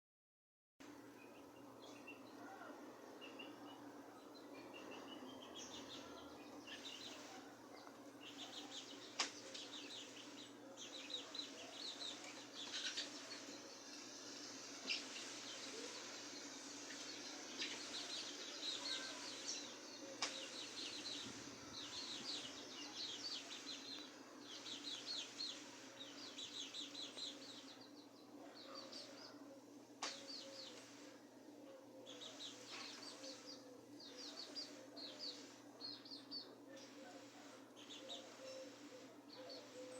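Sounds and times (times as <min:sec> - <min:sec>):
birds chirping and twittering: 0:00.8 - 0:39.9.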